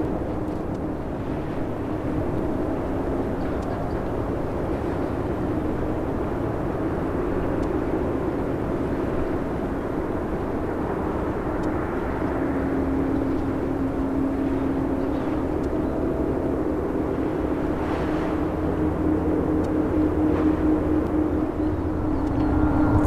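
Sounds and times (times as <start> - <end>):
jet engines droning: 0.0 - 23.0.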